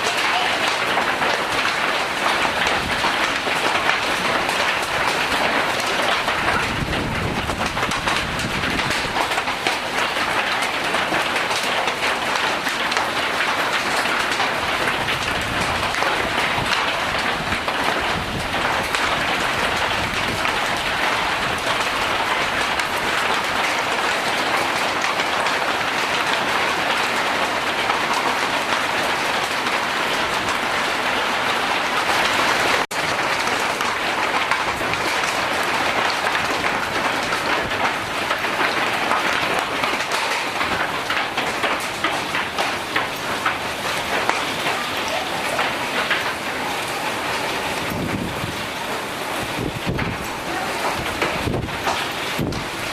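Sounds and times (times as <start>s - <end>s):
hail and heavy rain pelting: 0.0s - 52.9s.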